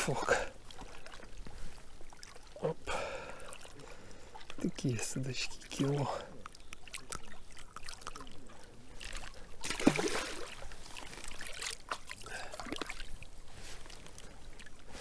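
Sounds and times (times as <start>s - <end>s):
water trickling and lapping: 0.0s - 15.0s.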